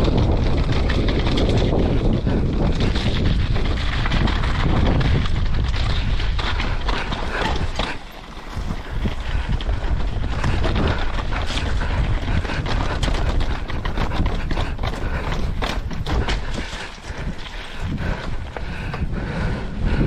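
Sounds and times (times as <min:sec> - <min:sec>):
bike tyres knocking over rocks: 0:00.0 - 0:19.1
bike frame and chain rattling: 0:00.0 - 0:20.0
wind buffeting microphone: 0:00.0 - 0:20.0.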